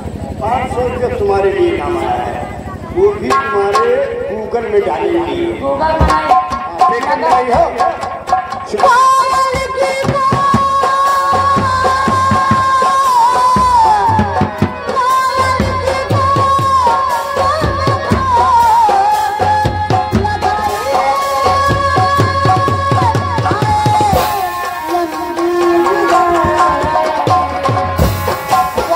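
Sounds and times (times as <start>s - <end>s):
woman singing through pa system: 3.5s - 8.1s, 8.7s - 28.9s
hand drum: 5.7s - 28.9s.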